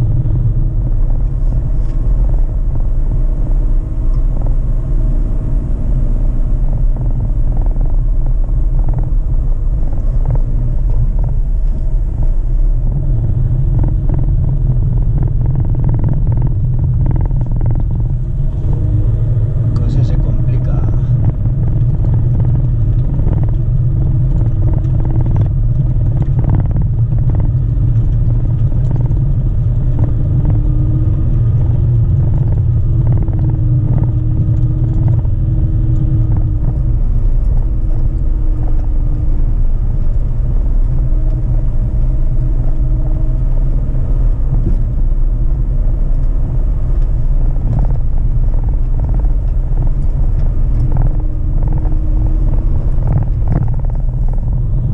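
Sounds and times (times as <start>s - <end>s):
car rumbling on gravel track: 0.0s - 54.9s
knocks and clatter over bumps: 6.6s - 54.9s.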